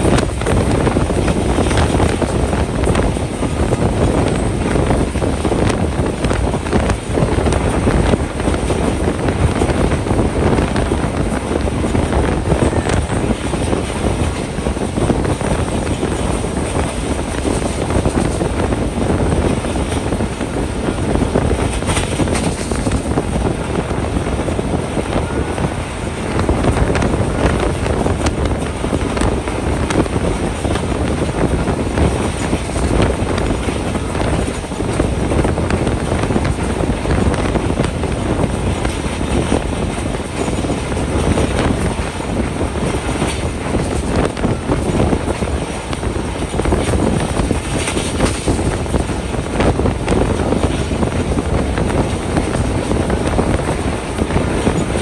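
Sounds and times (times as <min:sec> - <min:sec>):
train wheels rumbling and clattering: 0:00.0 - 0:55.0
wind rushing past: 0:00.0 - 0:55.0.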